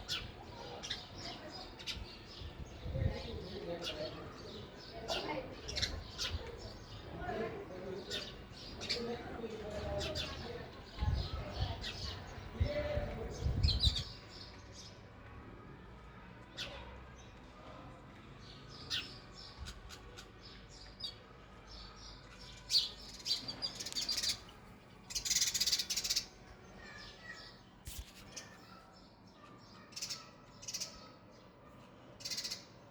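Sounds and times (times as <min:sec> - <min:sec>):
sparrows chirping: 0:00.0 - 0:15.0, 0:18.4 - 0:32.9.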